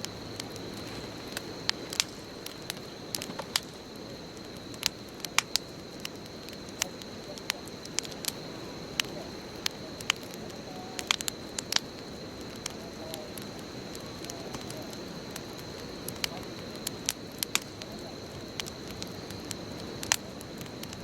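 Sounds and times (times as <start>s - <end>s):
fire popping and crackling: 0.0s - 21.0s.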